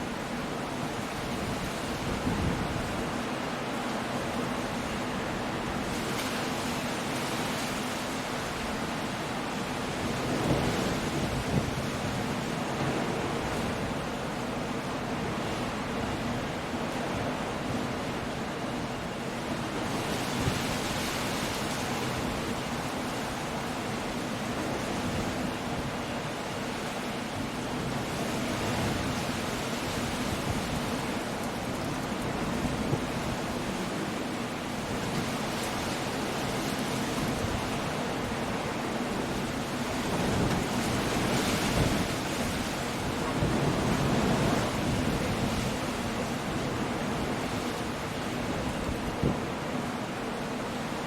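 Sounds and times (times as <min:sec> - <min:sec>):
rain: 0:00.0 - 0:51.0
wind: 0:00.0 - 0:51.0.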